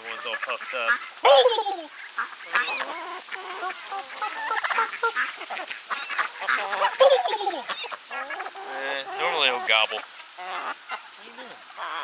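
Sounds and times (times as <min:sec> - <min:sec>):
turkeys and chickens calling: 0:00.0 - 0:12.0.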